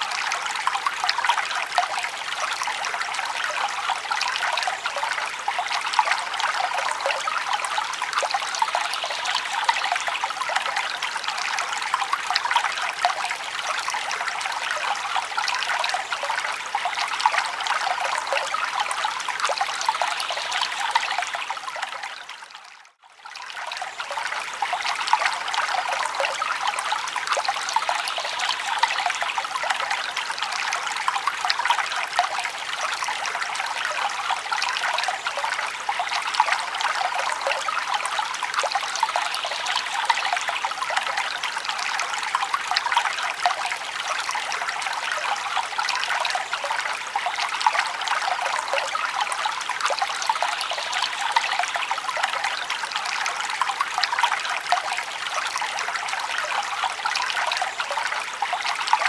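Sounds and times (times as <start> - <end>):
brook flowing over stones: 0.0 - 59.0.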